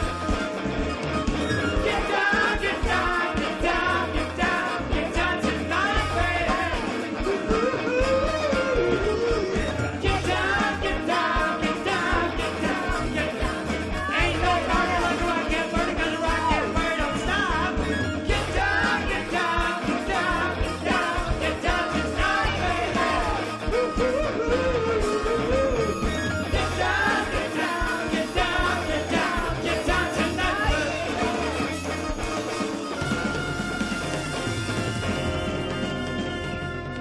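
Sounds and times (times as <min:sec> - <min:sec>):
rock band playing: 0:00.0 - 0:37.0
person singing: 0:01.6 - 0:33.1.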